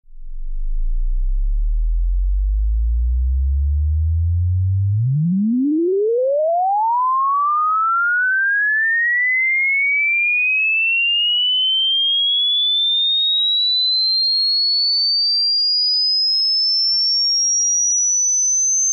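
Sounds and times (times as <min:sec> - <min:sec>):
sine tone rising in pitch: 0:00.0 - 0:18.9.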